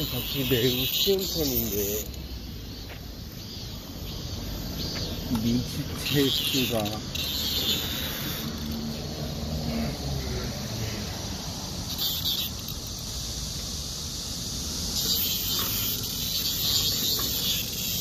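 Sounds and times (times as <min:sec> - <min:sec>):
cicadas singing: 0:00.0 - 0:18.0.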